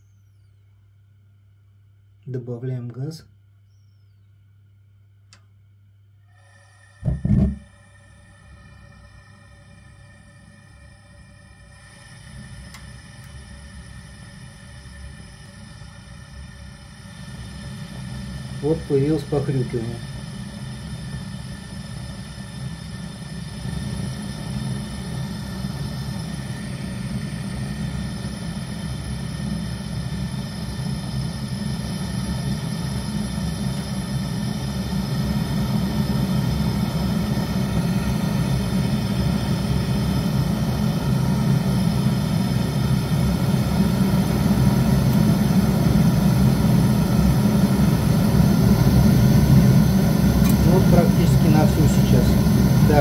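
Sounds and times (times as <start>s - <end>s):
gas burner rushing: 6.4s - 53.0s.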